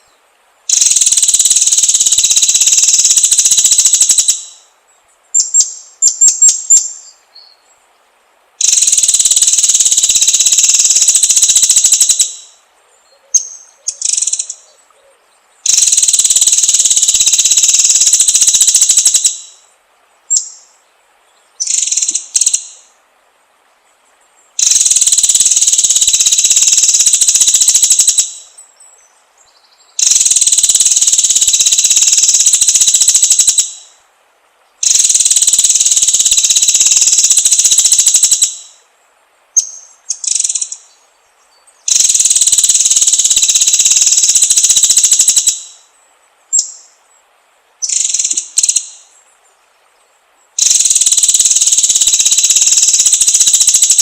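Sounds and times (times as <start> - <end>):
bird singing rapid rattling notes: 0.7 - 4.7, 5.3 - 7.7, 8.6 - 12.6, 13.3 - 14.8, 15.6 - 19.7, 21.4 - 22.9, 24.2 - 34.0, 34.8 - 38.8, 39.6 - 47.0, 47.8 - 49.4, 50.0 - 54.0.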